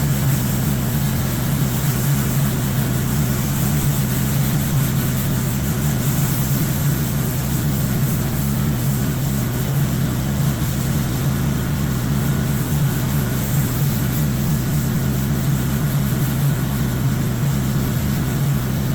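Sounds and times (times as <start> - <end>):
pressure washer engine running: 0.0 - 18.9.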